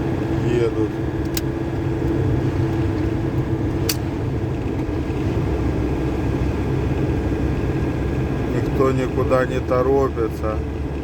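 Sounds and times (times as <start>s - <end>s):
low diesel engine drone: 0.0s - 11.0s
road and wind noise: 0.0s - 11.0s.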